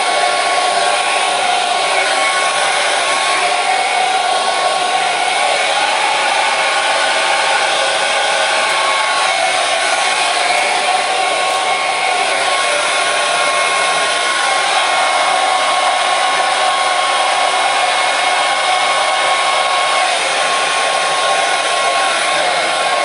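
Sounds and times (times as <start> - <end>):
hair dryer blowing air: 0.0 - 23.0.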